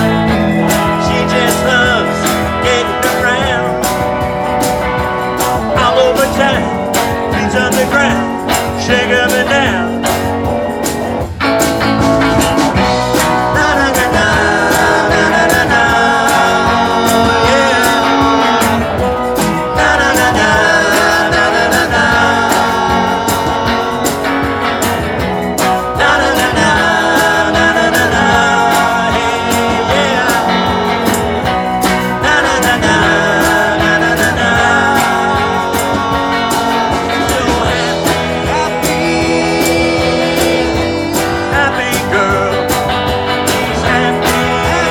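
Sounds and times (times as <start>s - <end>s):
live rock and roll band: 0.0s - 44.9s.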